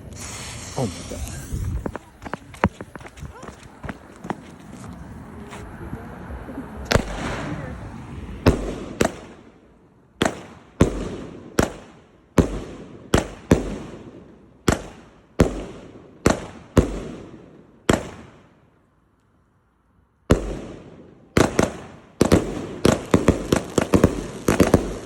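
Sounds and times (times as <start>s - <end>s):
fireworks bangs: 0.0s - 5.4s, 6.7s - 18.6s, 20.3s - 25.0s.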